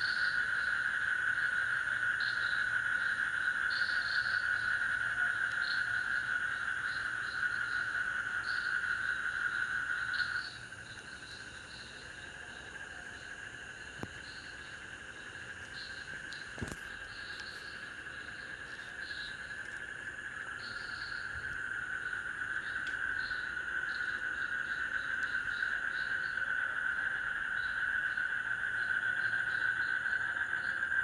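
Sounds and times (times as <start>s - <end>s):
cricket trill: 0.0s - 31.0s
high insect chirps: 0.0s - 31.0s.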